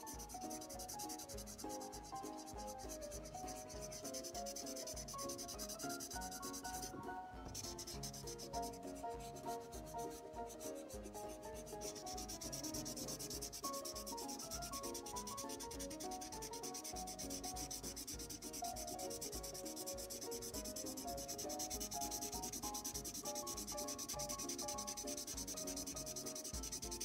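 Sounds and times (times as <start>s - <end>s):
pen scratching on paper: 0.0s - 27.0s.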